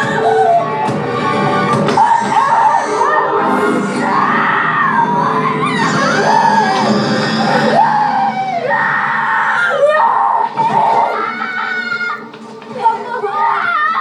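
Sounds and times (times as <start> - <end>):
film soundtrack music: 0.0 - 14.0
people screaming: 0.0 - 14.0.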